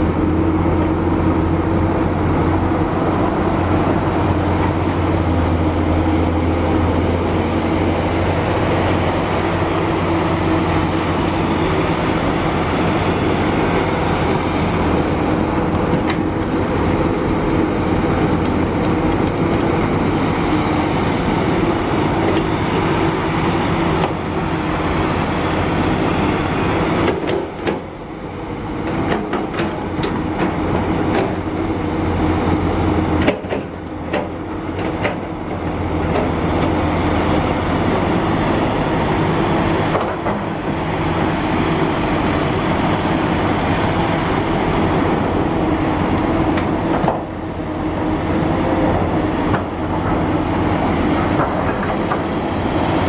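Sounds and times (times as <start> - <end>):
excavator diesel engine: 0.0 - 53.0
excavator knocks and clanks: 0.3 - 53.0.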